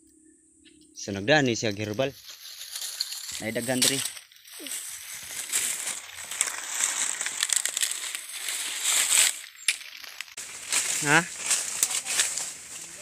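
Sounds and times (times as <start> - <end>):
footsteps crunching dry leaves: 1.5 - 13.0
brushing through undergrowth: 1.6 - 13.0.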